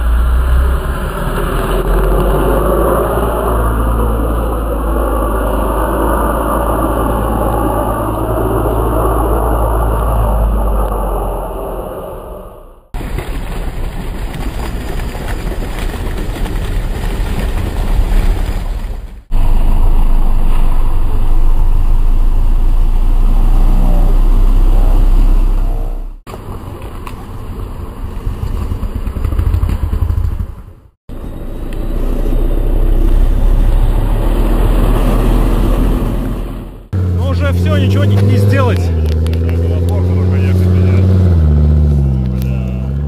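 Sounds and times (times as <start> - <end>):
off-road engines working hard: 0.0 - 43.0.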